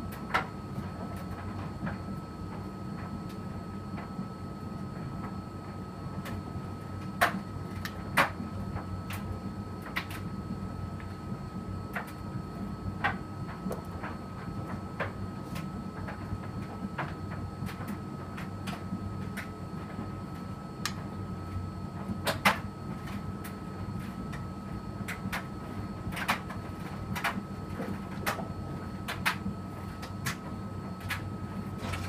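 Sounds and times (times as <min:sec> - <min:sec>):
washing machine motor hum: 0:00.0 - 0:32.0.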